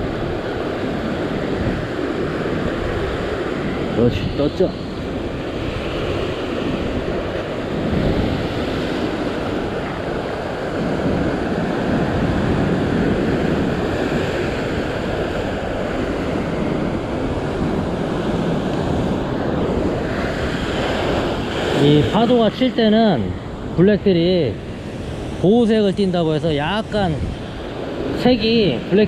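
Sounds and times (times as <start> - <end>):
ocean surf breaking on rocks: 0.0 - 29.0
wind buffeting microphone: 0.0 - 29.0.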